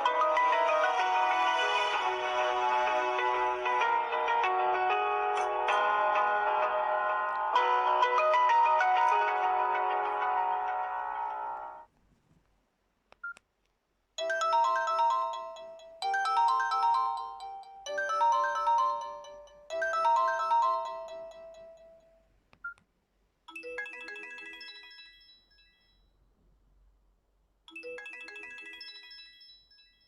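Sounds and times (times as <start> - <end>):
phone ringtone melody: 0.0 - 11.8, 14.2 - 22.2, 23.5 - 26.1, 27.7 - 30.0.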